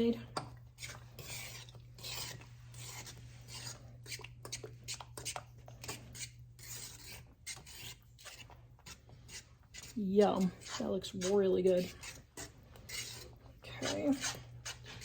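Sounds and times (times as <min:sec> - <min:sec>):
utensil scraping a bowl: 0:00.0 - 0:15.0.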